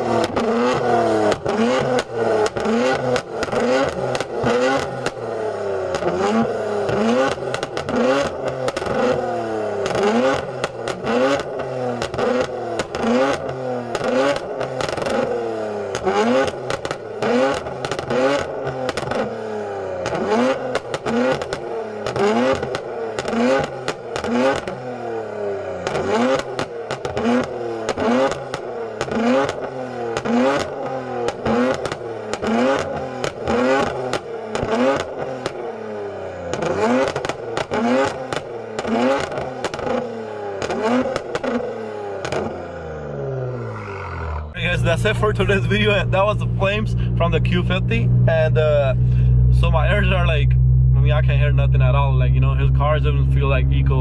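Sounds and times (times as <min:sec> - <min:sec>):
exhaust pops and crackles: 0:00.0 - 0:25.0, 0:25.8 - 0:35.8, 0:36.4 - 0:42.6, 0:44.4 - 0:54.0
car engine revving: 0:00.0 - 0:54.0.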